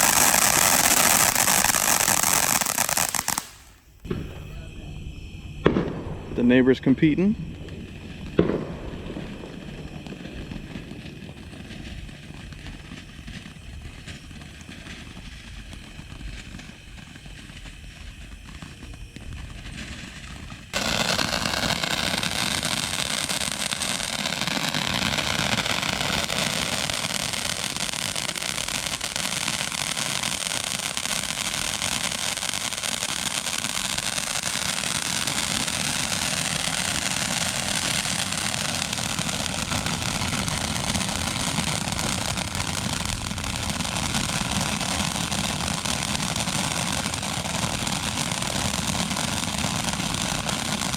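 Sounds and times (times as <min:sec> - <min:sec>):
firework fountain hissing: 0:00.0 - 0:50.9.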